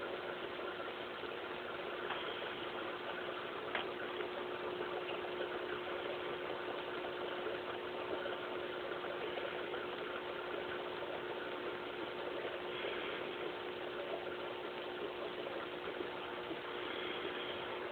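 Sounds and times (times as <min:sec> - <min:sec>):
aquarium pump humming: 0:00.0 - 0:17.9
hiss of bubbling water: 0:00.0 - 0:17.9.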